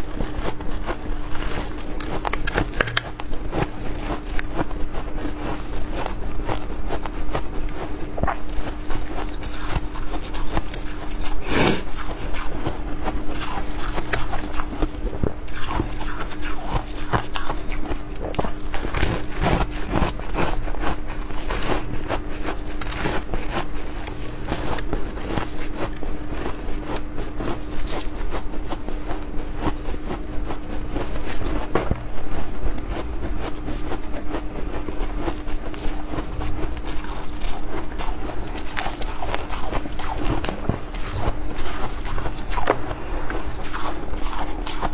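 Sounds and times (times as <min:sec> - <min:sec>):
faint steady hum: 0:00.0 - 0:44.9
ice being chewed: 0:00.0 - 0:44.9.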